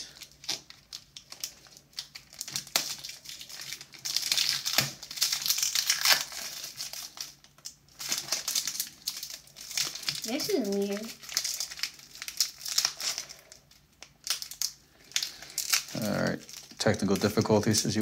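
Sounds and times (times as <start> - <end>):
foil wrapper crinkling: 0.0 - 18.0.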